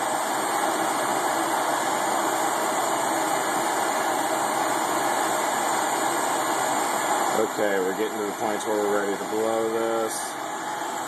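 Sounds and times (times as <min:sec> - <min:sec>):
torch flame hissing: 0:00.0 - 0:11.0.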